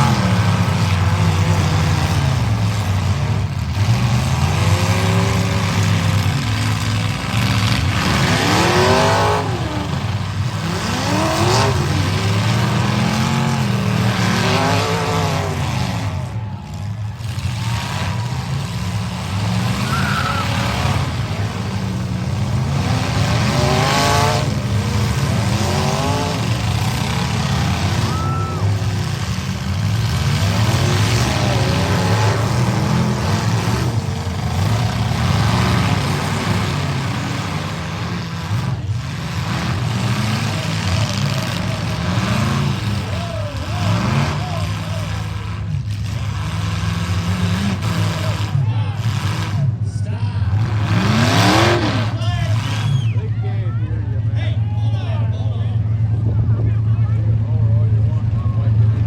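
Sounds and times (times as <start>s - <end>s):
steady engine drone: 0.0s - 59.0s
truck engines revving hard: 0.0s - 59.0s.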